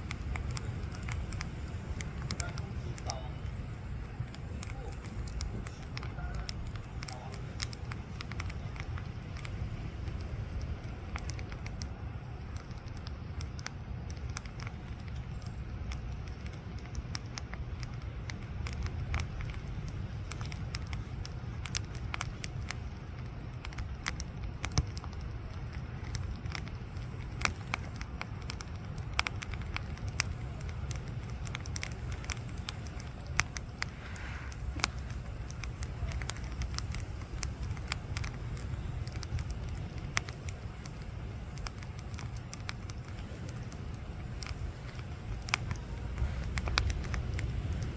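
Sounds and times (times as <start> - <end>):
campfire crackling and popping: 0.0 - 47.9
low rumble: 0.0 - 47.9.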